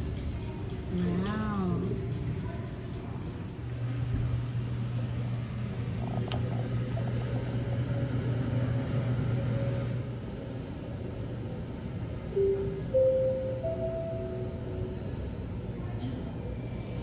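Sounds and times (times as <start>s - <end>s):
machinery low hum: 0.0s - 17.0s.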